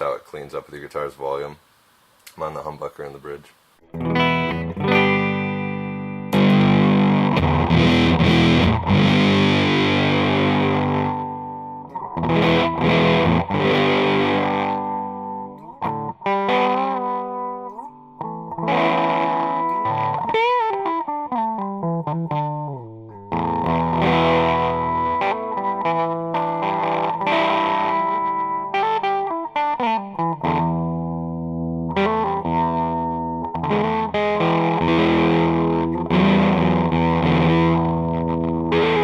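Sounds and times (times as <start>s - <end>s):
fuzzed electric guitar: 3.8s - 39.0s.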